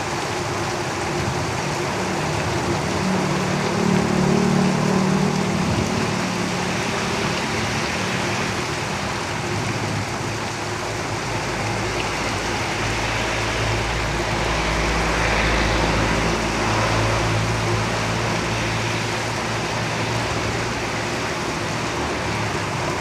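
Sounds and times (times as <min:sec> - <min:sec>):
rain on a tin roof: 0:00.0 - 0:23.0
road vehicles rumbling past: 0:00.0 - 0:23.0.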